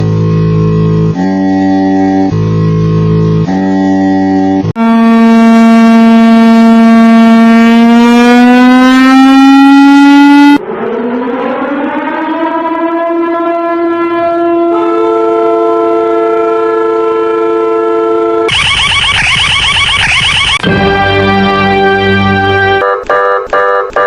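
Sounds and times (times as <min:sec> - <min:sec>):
two-tone siren chord: 0:00.0 - 0:24.0
warning siren wailing: 0:03.4 - 0:24.0.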